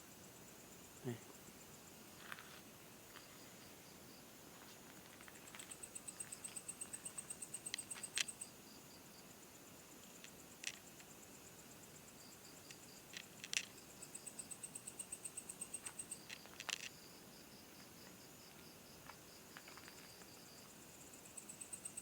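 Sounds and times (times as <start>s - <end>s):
crickets chirping: 0.0s - 22.0s
faint insect trill: 0.0s - 22.0s.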